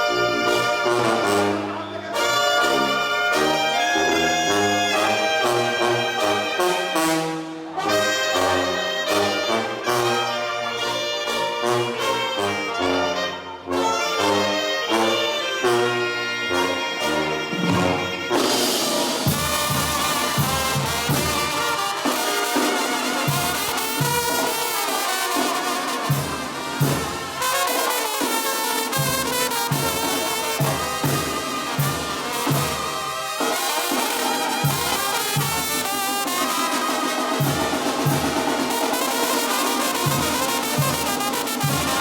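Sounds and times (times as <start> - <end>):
brass band playing: 0.0 - 42.0
trumpets and trombones melody: 0.0 - 42.0.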